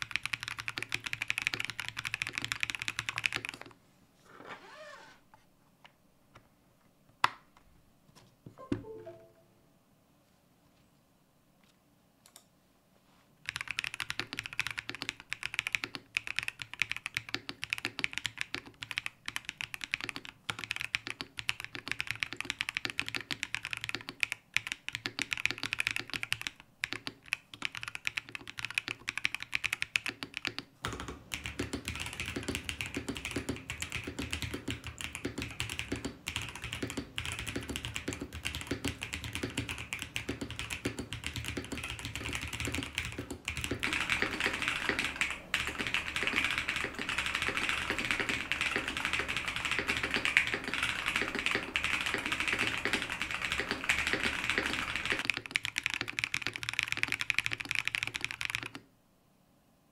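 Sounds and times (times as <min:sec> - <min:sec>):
fast typing on mechanical keyboard: 0:00.0 - 0:03.7, 0:13.4 - 0:58.8.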